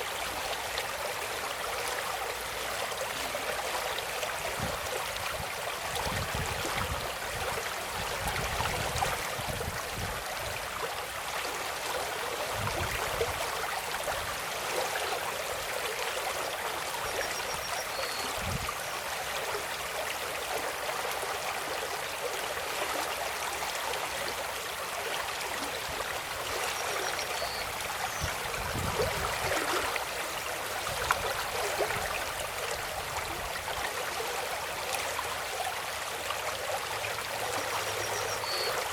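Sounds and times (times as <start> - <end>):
water rushing and babbling: 0.0 - 38.9.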